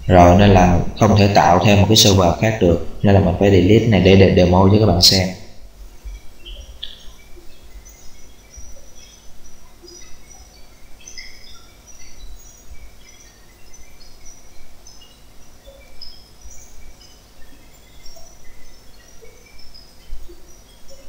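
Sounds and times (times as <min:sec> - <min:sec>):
faint steady hum: 0:00.0 - 0:21.0
small birds chirping: 0:00.0 - 0:21.0.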